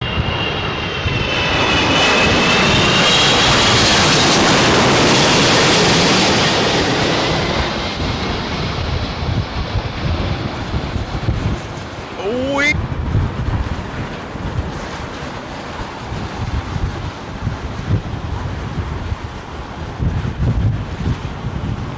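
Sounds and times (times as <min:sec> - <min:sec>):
jet engines passing overhead: 0:00.0 - 0:21.9.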